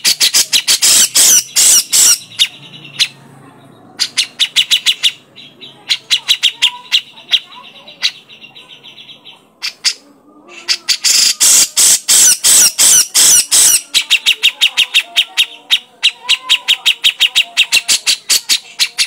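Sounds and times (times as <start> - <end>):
bird harsh chattering: 0.0 - 3.2, 4.0 - 19.0
bird sharp repeated notes: 0.0 - 3.2, 4.0 - 10.0, 10.8 - 19.0.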